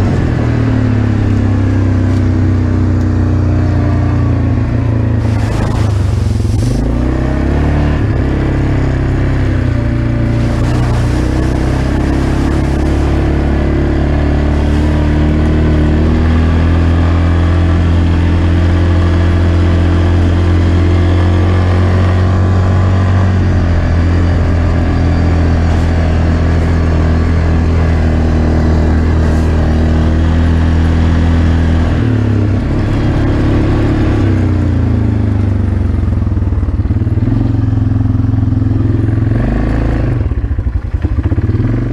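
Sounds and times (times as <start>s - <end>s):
quad engine running: 0.0s - 41.9s.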